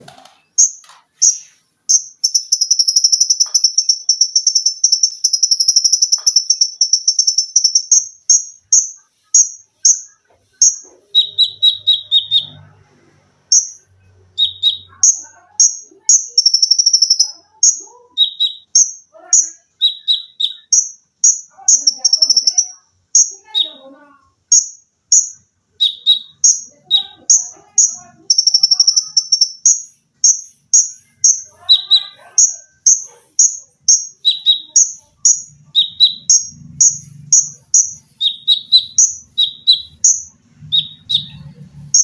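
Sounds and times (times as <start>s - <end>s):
shrill bird notes and rattles: 0.1s - 42.0s
bird singing buzzy high trill: 0.5s - 12.8s, 13.4s - 42.0s.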